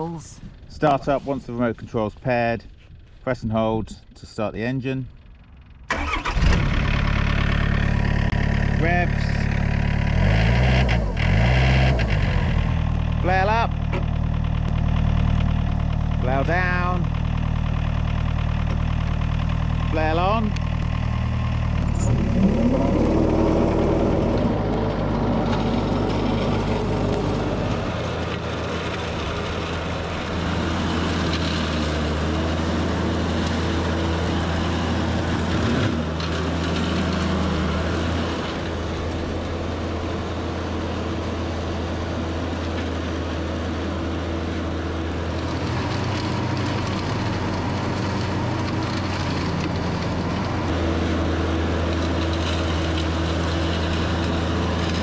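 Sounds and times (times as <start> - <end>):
flail mower engine running: 5.9 - 11.4, 12.0 - 55.0.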